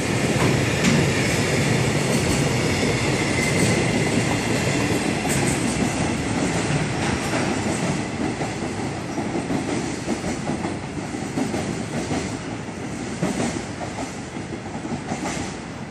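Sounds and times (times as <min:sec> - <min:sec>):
freight train rolling past: 0:00.0 - 0:15.9.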